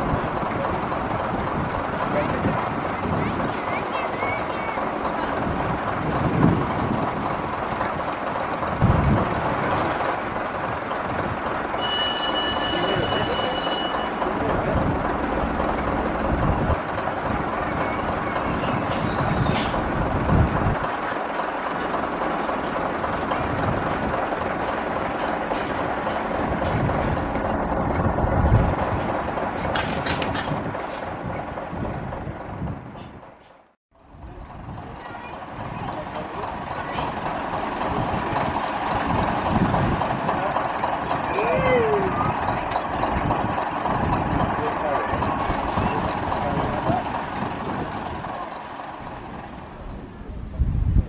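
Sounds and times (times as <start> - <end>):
steam train rushing: 0.0 - 51.0.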